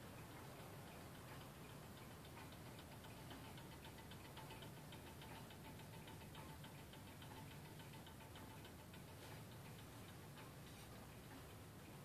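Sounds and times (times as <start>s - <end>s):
wall clock ticking: 0.0s - 12.0s.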